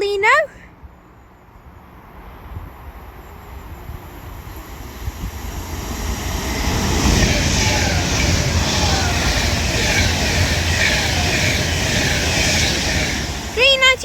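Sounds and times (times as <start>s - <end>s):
electric train passing at speed: 0.7s - 14.0s.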